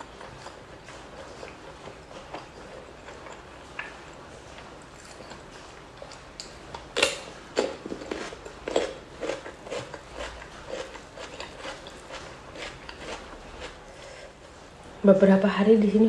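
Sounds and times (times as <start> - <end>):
rhythmic chewing: 0.0 - 15.0.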